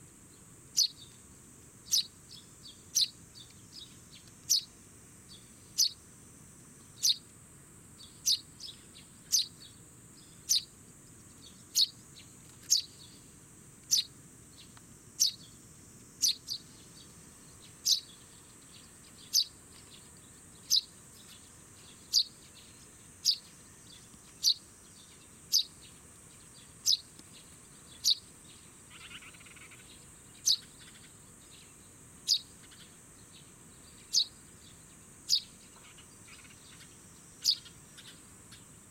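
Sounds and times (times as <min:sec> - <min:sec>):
sparrow chirping: 0:00.7 - 0:01.2, 0:01.9 - 0:06.0, 0:06.9 - 0:07.2, 0:08.0 - 0:15.6, 0:16.2 - 0:38.9.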